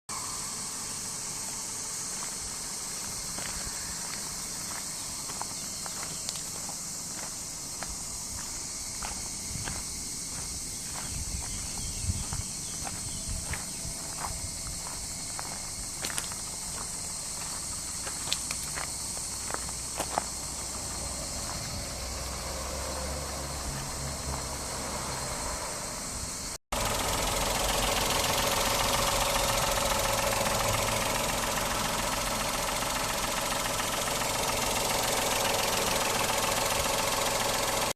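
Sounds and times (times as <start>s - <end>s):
car engine idling: 0.4s - 37.9s.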